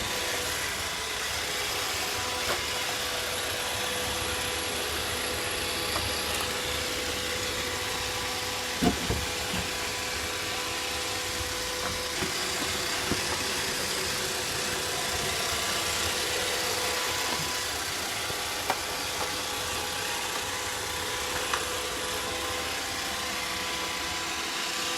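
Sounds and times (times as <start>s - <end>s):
robot vacuum whirring: 0.0s - 24.9s.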